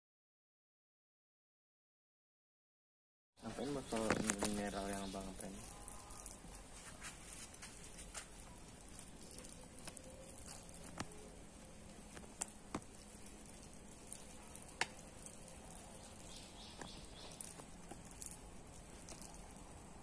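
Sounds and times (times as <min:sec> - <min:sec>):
water pattering on soil: 0:03.5 - 0:20.0.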